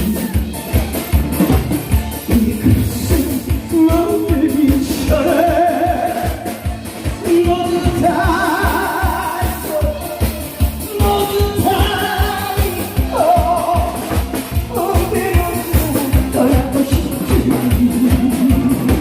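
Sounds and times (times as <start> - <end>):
steady drum beat: 0.0 - 19.0
person singing long notes: 2.3 - 19.0.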